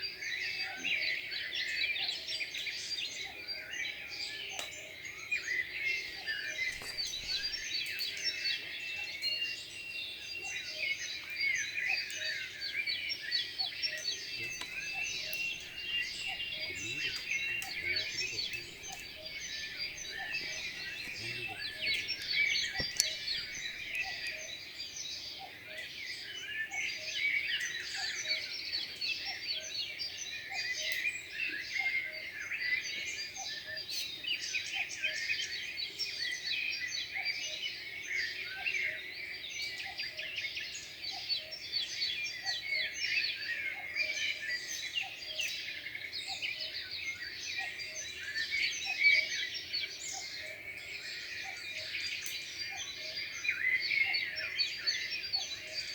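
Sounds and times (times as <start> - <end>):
birds chirping and twittering: 0.0 - 55.9.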